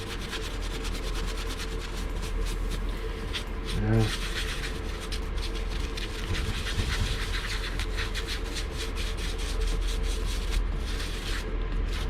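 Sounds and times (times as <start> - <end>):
scratchy rubbing strokes: 0.0 - 12.0
steady low hum: 0.0 - 12.0.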